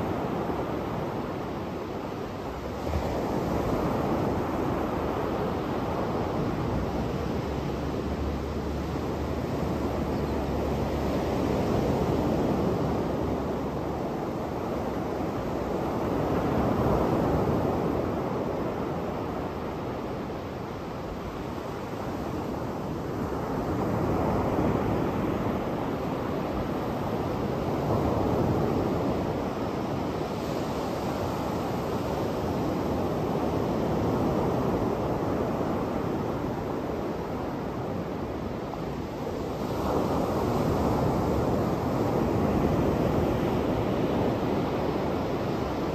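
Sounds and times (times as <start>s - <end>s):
sea surf breaking on beach: 0.0s - 45.9s.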